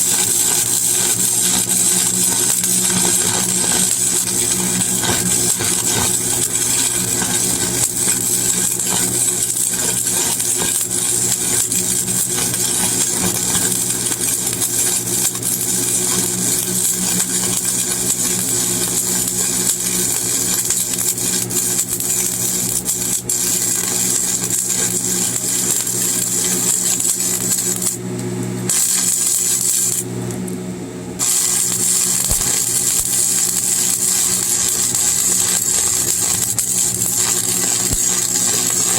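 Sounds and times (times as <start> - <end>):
welding arc crackling and sizzling: 0.0 - 38.9.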